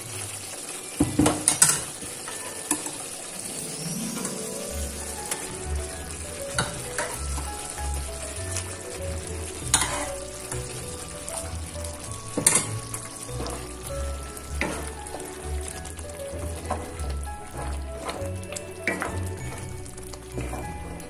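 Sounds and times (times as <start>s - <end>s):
sauce bubbling and sizzling in a pan: 0.0s - 21.0s.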